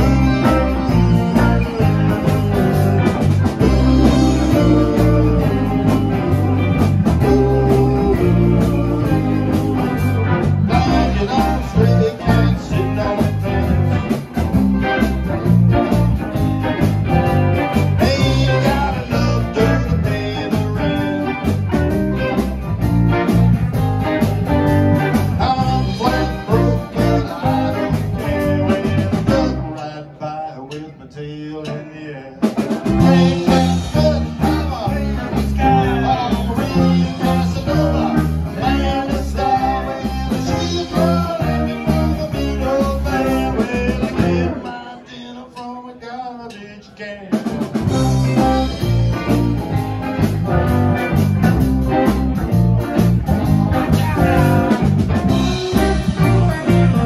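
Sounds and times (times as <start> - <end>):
live rockabilly band playing: 0.0 - 57.0.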